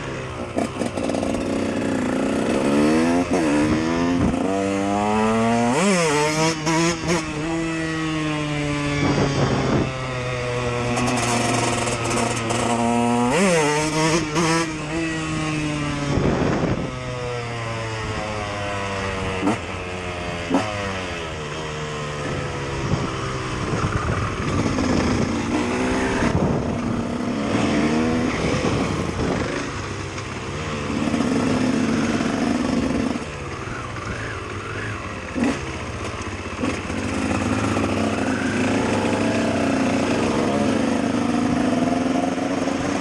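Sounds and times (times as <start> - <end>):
dirt bike engine revving: 0.0 - 21.5, 22.2 - 43.0.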